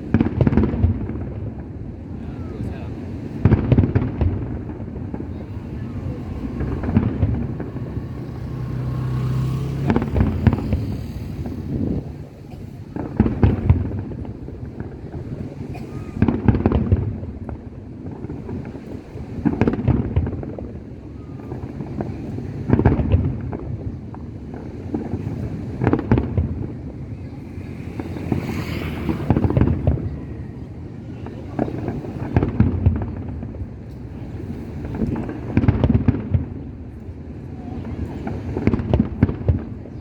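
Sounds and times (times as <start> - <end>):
fireworks bursting with cracks: 0.0 - 40.0.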